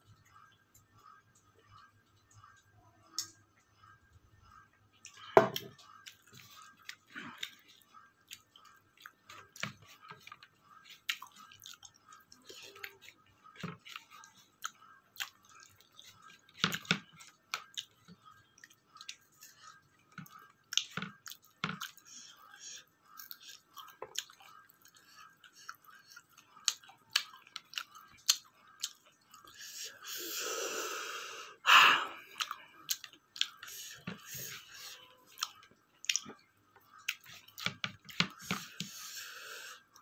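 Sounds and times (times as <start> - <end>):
person chewing food: 0.0 - 31.2, 31.8 - 40.0.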